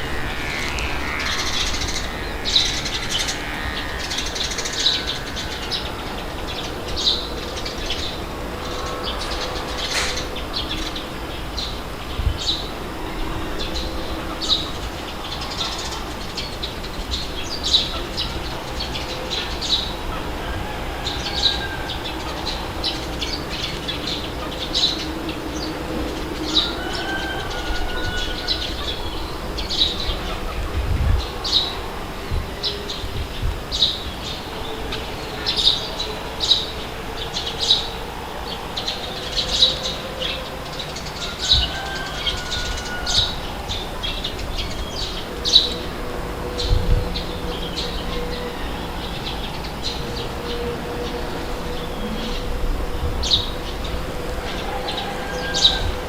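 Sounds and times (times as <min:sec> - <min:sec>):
birds chirping: 0:00.0 - 0:56.0
wind rushing: 0:00.0 - 0:56.0.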